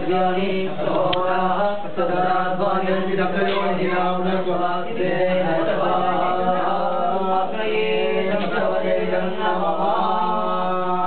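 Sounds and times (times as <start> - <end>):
priests chanting: 0.0 - 11.0.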